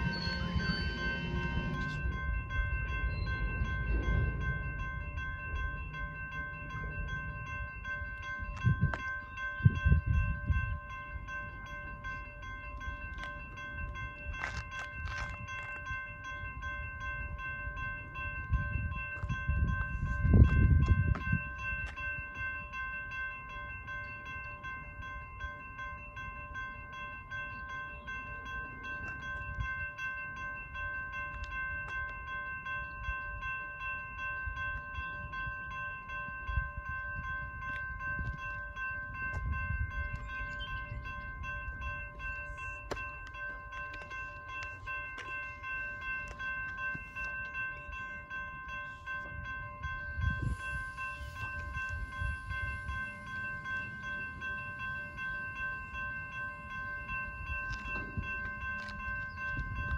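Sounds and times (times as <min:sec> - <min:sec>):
crossing bell ringing: 0:00.0 - 0:59.9.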